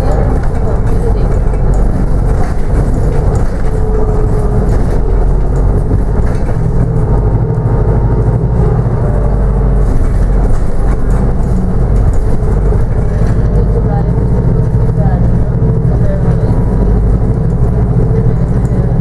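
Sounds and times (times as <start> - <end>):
bus engine drone: 0.0 - 19.0
road rumble: 0.0 - 19.0.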